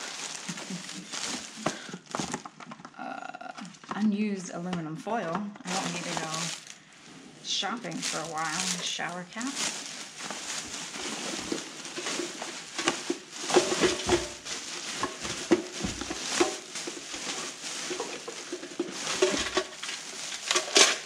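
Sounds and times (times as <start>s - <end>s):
plastic bags rustling: 0.0s - 2.9s, 5.6s - 21.0s.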